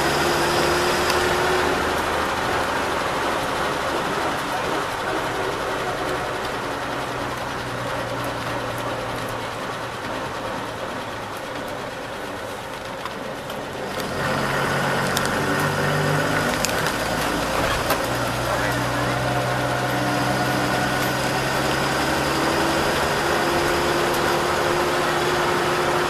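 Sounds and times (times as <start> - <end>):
engine running: 0.0 - 26.0
road noise: 0.0 - 26.0.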